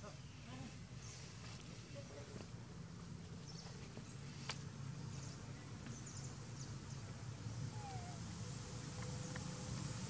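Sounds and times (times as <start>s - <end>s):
steady low hum: 0.8s - 10.0s.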